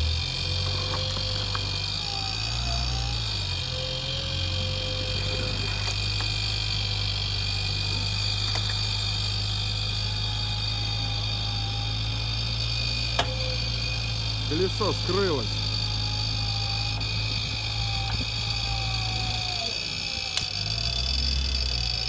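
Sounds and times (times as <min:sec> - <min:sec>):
engine running with high whine: 0:00.0 - 0:22.0.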